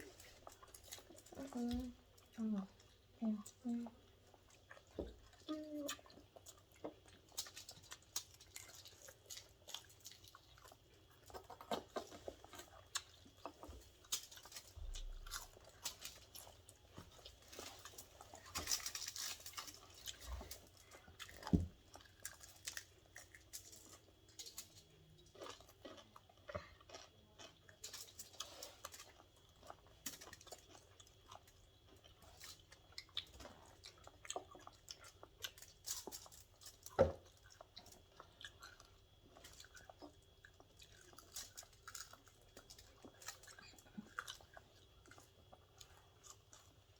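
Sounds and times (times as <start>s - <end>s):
chewing with mouth clicks: 0.0s - 46.9s.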